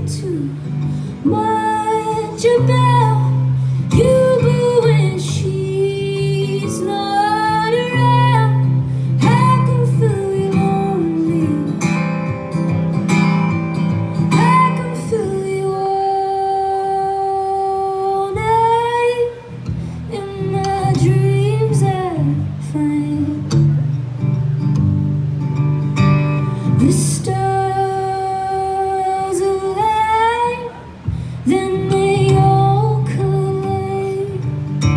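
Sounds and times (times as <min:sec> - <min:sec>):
woman singing: 0:00.0 - 0:12.6, 0:13.9 - 0:23.8, 0:26.4 - 0:34.9
acoustic guitar strumming: 0:00.0 - 0:34.9.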